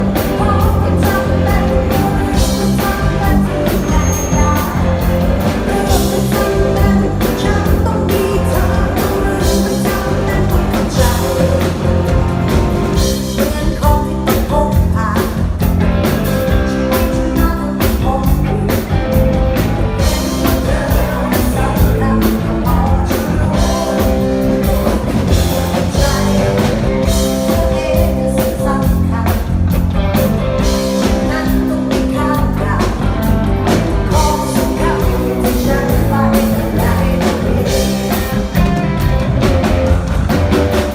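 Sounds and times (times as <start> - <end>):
person singing: 0.0 - 15.6, 16.4 - 40.9
drums: 0.0 - 40.9
live rock band playing: 0.0 - 40.9.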